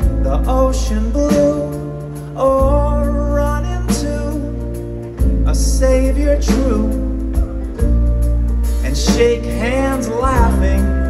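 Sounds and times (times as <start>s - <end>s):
acoustic band playing slow song: 0.0s - 11.0s
person singing: 0.0s - 11.0s.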